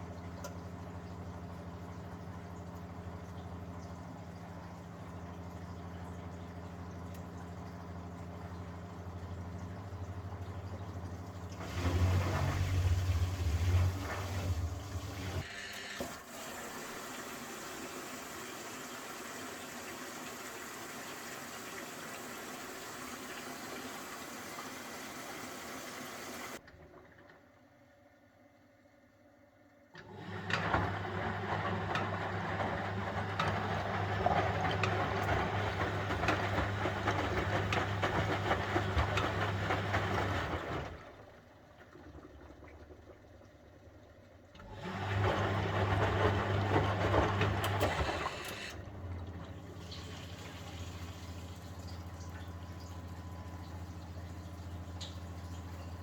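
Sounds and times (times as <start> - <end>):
washing machine motor humming: 0.0 - 27.0, 30.0 - 42.5, 44.0 - 56.0.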